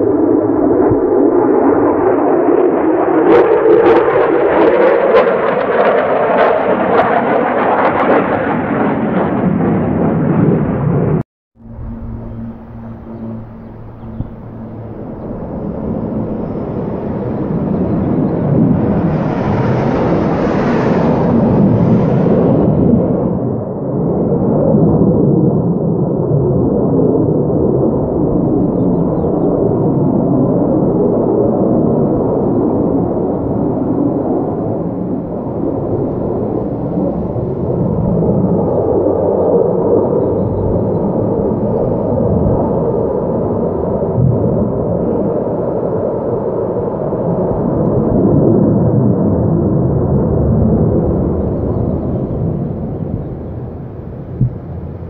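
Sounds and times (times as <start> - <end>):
jet engine roar: 0.0 - 55.0.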